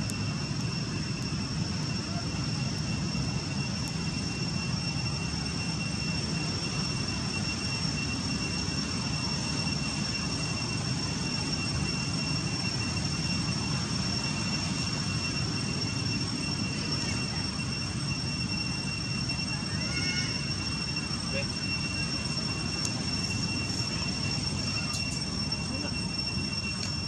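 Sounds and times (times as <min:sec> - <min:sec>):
thin high-pitched whine: 0:00.0 - 0:27.0.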